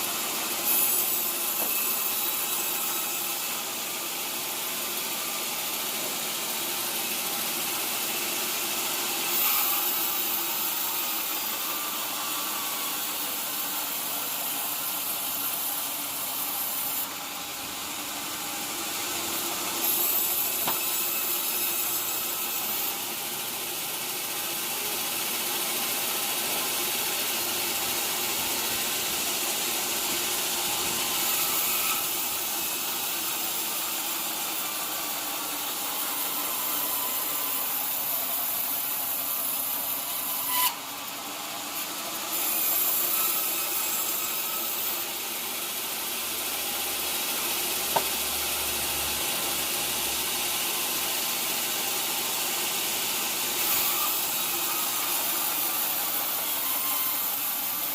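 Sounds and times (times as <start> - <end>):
sawmill saw cutting wood: 0.0 - 57.9.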